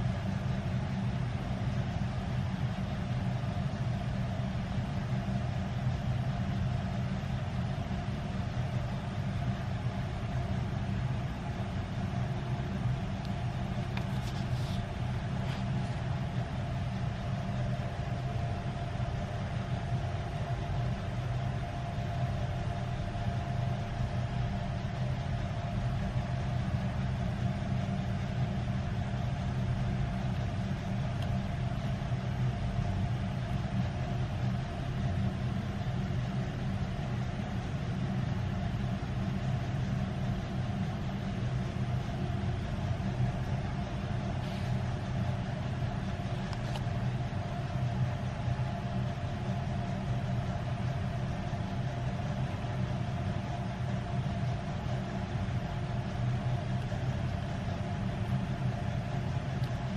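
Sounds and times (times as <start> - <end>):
low background hum and rumble: 0.0 - 59.9.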